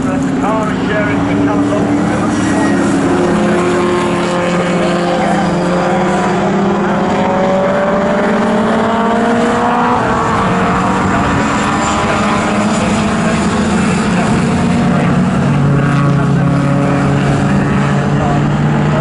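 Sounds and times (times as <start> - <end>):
car engines accelerating: 0.0 - 19.0.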